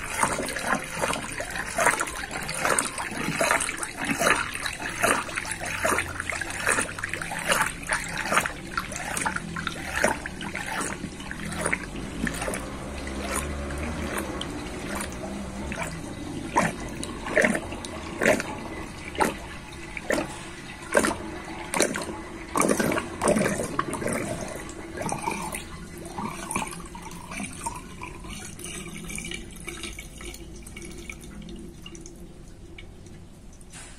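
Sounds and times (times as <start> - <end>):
water gurgling down sink drain: 0.0 - 33.6.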